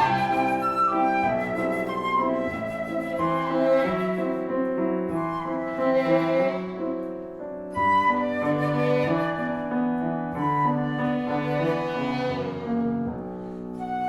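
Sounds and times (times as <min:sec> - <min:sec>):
bowed string instrument: 0:00.0 - 0:14.0
flute melody: 0:00.0 - 0:14.0
piano: 0:00.0 - 0:14.0.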